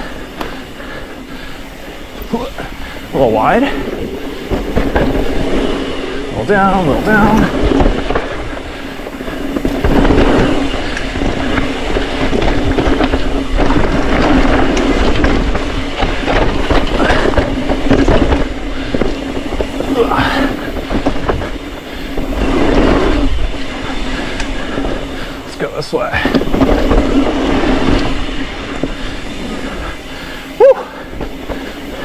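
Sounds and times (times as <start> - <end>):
bike clattering over bumps: 0.0 - 32.0
bike tyre noise: 0.0 - 32.0
steady hum: 0.0 - 32.0
wind over microphone: 0.0 - 32.0.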